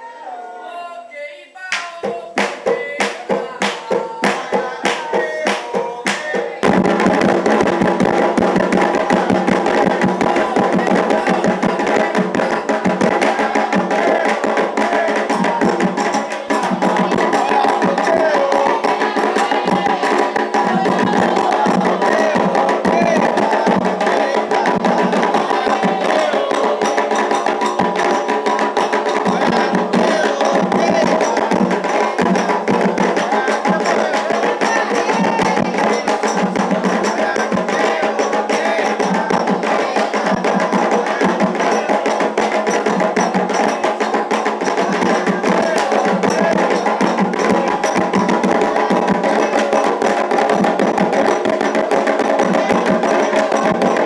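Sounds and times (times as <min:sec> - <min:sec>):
voices singing: 0:00.0 - 0:54.0
hand drums playing: 0:01.8 - 0:54.0
struck bell: 0:09.7 - 0:54.0.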